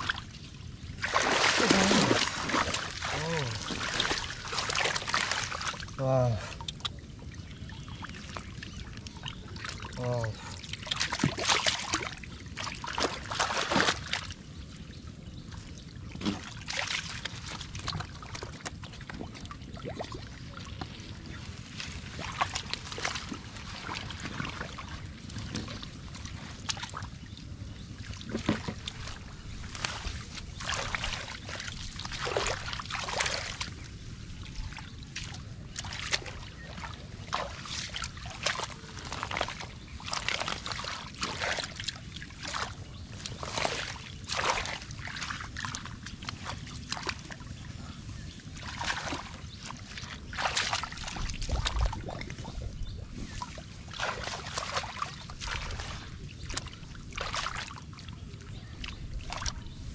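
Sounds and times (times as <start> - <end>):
splashing in muddy water: 0.0 - 59.9.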